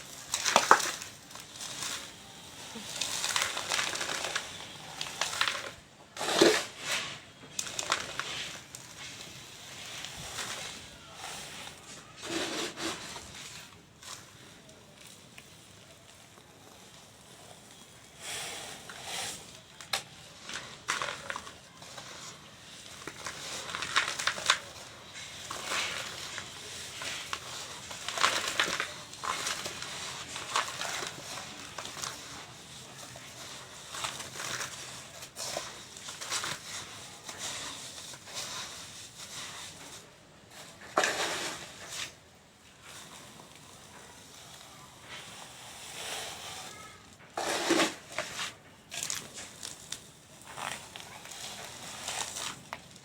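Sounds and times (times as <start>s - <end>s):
dry cement crumbling: 0.0s - 46.0s, 46.6s - 53.0s.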